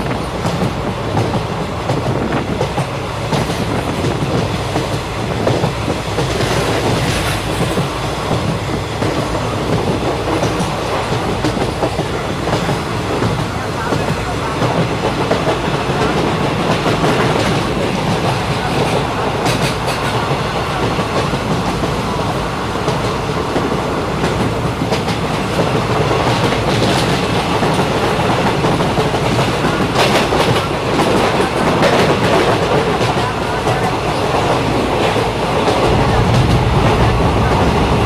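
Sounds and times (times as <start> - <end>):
train rolling rumble: 0.0 - 38.0.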